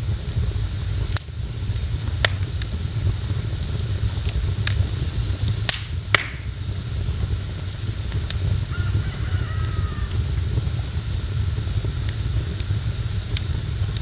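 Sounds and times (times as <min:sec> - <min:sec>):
fire pops: 0:00.0 - 0:14.0
low fire rumble: 0:00.0 - 0:14.0
wood fire crackling: 0:00.0 - 0:14.0.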